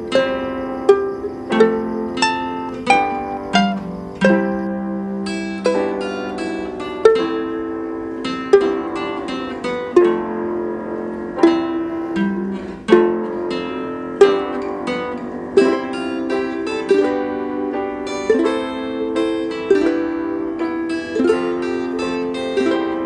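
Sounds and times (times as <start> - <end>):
plucked string instrument music: 0.0 - 23.0.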